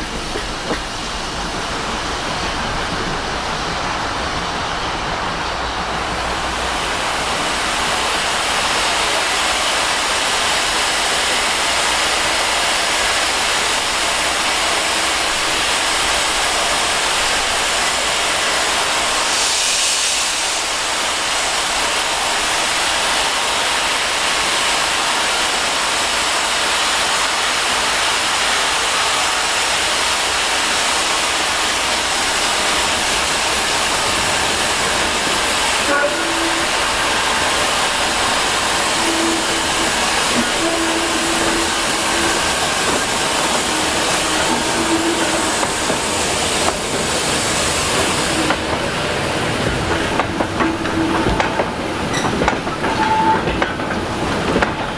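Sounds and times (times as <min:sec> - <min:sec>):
locomotive steam hissing: 0:00.0 - 0:54.9.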